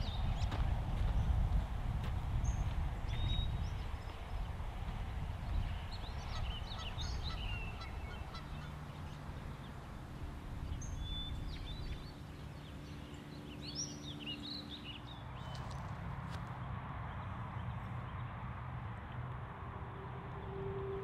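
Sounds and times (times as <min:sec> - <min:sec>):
birds chirping: 0:00.0 - 0:18.4
soft low drone: 0:00.0 - 0:21.0.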